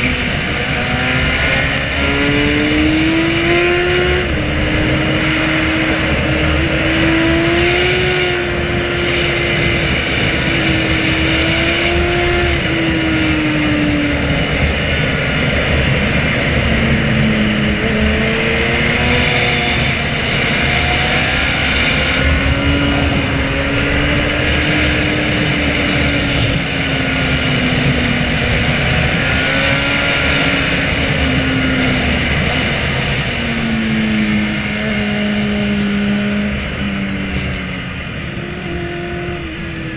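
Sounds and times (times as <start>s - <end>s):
broad rush of noise: 0.0s - 39.9s
motorcycle engine running: 0.0s - 39.9s.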